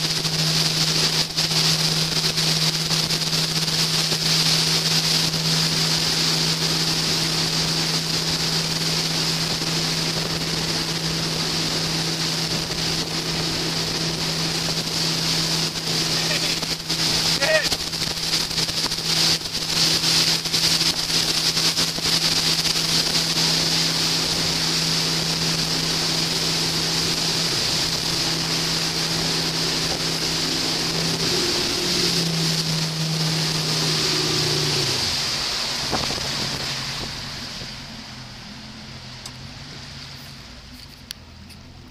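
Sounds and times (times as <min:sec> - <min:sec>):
boat engine running: 0:00.0 - 0:41.9
rushing water: 0:00.0 - 0:41.9
wind: 0:00.0 - 0:41.9.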